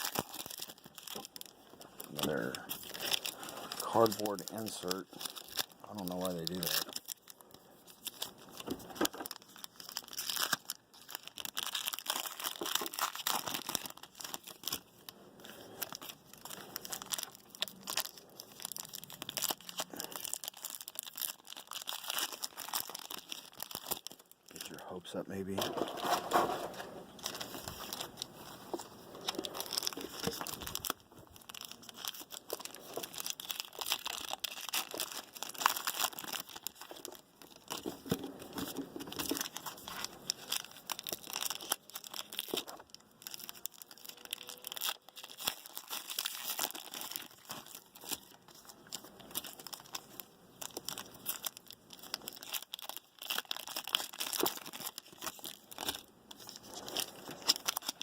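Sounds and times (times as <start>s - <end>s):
foil wrappers crinkling and tearing: 0.0s - 58.0s.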